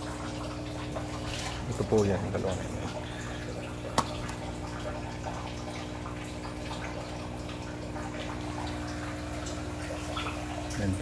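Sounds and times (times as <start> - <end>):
air pump humming: 0.0 - 11.0.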